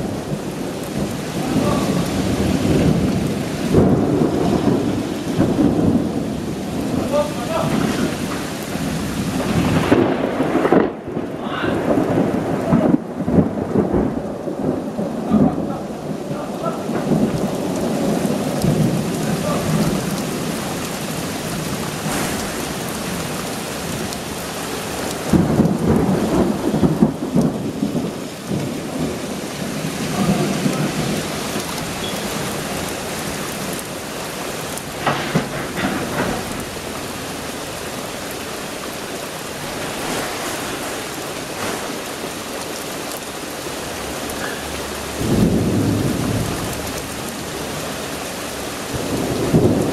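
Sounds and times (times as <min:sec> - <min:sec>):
rolling thunder: 0:00.0 - 0:38.0, 0:44.1 - 0:49.9
steady rain: 0:00.0 - 0:49.9.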